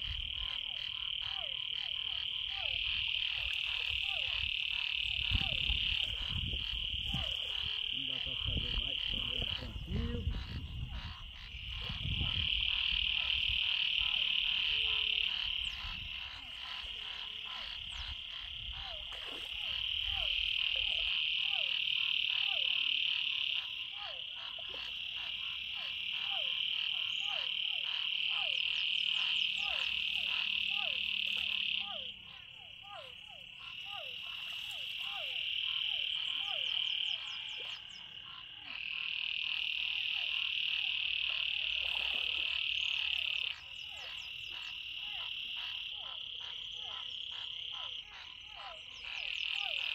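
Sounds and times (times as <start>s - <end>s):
frogs trilling: 0.0s - 49.9s
short falling frog calls: 0.0s - 49.9s.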